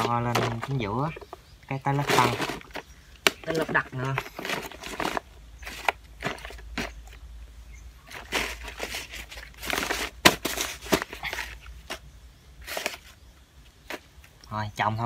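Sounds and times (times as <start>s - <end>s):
hands scraping potting soil: 0.0s - 7.3s, 8.0s - 14.4s.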